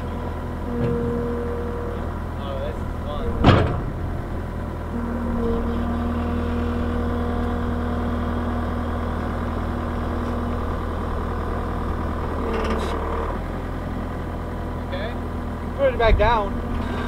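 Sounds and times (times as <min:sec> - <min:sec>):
diesel engine running: 0:00.0 - 0:17.0
hydraulic whine: 0:00.0 - 0:17.0.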